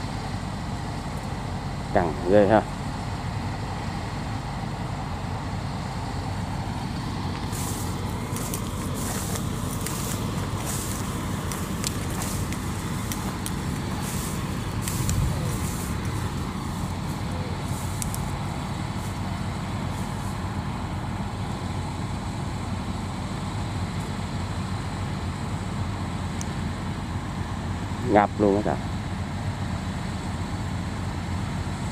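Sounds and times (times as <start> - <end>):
diesel engine droning: 0.0 - 31.9.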